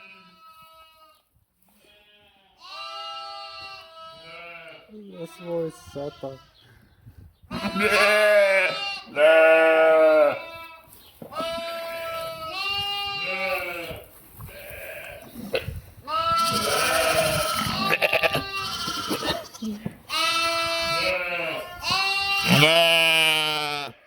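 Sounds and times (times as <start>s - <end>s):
sheep and lambs bleating: 0.0s - 6.8s, 7.5s - 24.0s.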